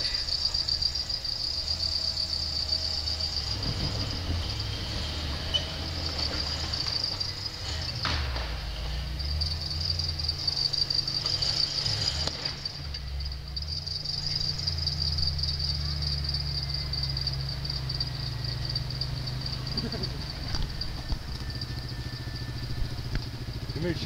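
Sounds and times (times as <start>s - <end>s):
insects chirring: 0.0s - 24.0s
vehicle engine rumble: 0.0s - 24.0s.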